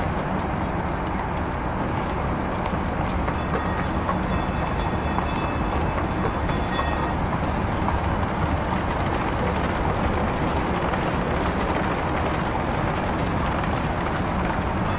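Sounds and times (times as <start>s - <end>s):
streetcar rumbling on rails: 0.0s - 14.9s.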